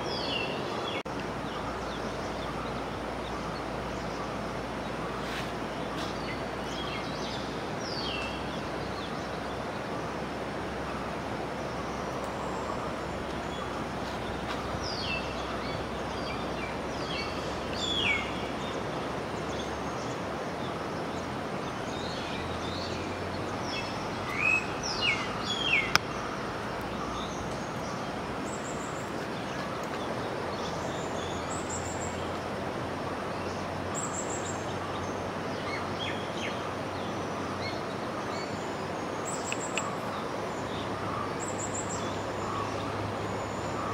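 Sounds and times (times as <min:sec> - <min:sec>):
birds chirping: 0:00.0 - 0:43.9
steady rushing noise: 0:00.0 - 0:43.9.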